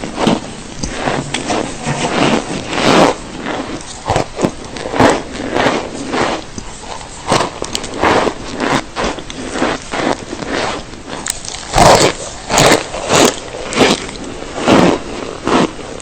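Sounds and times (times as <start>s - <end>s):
brittle substance crunching: 0.0s - 16.0s.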